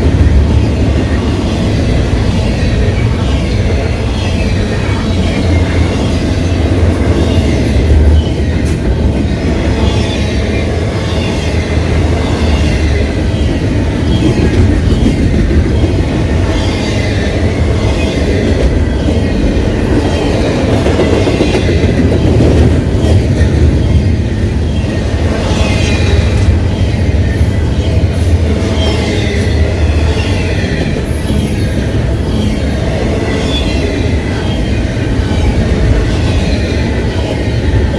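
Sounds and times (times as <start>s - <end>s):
freight train rumbling: 0.0s - 37.9s.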